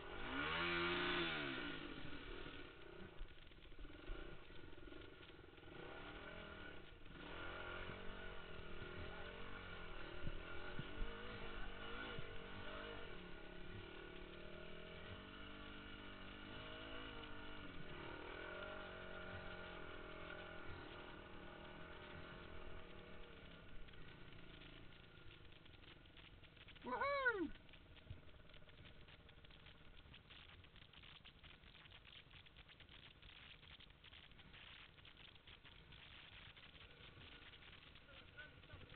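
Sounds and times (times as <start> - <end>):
motorbike engine revving: 0.0 - 31.3.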